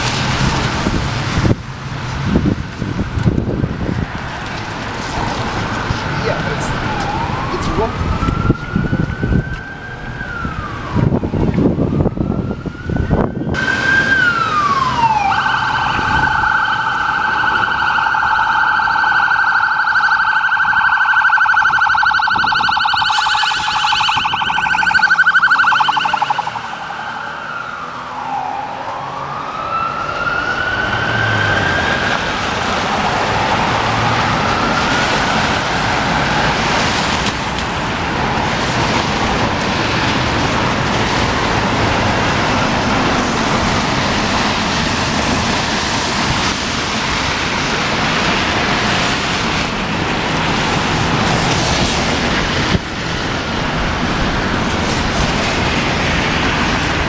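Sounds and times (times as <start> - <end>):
street noise: 0.0 - 57.0
emergency vehicle siren: 2.4 - 57.0.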